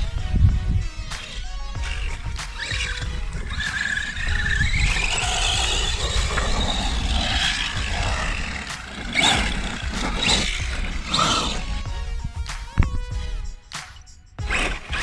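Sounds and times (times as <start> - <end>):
electric toy car motor whining: 0.0 - 11.8, 14.4 - 15.0.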